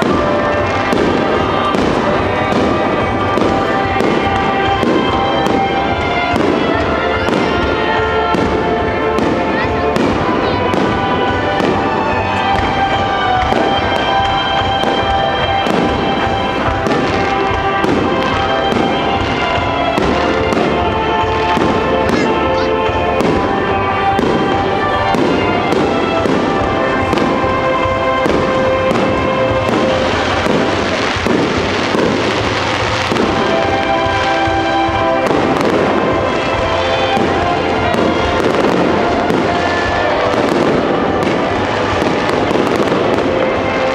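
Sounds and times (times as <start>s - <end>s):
fireworks bangs: 0.0s - 43.9s
music playing: 0.0s - 43.9s.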